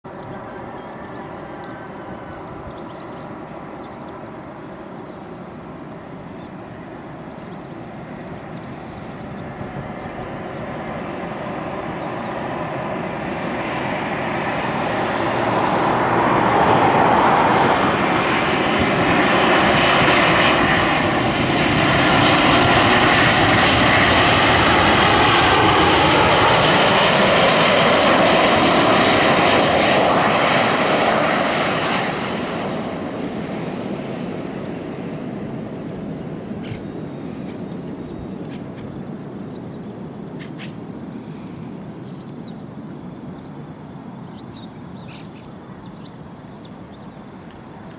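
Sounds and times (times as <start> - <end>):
jet engines passing overhead: 0.1 - 47.9.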